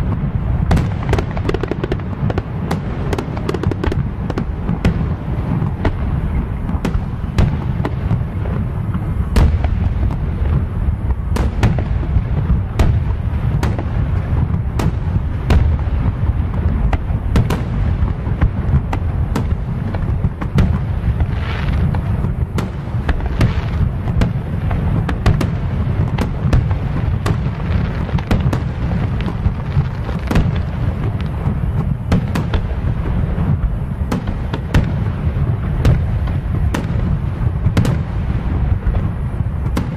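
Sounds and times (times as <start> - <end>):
firework crackles: 0.0 - 39.9
firework shells bursting: 0.0 - 39.9.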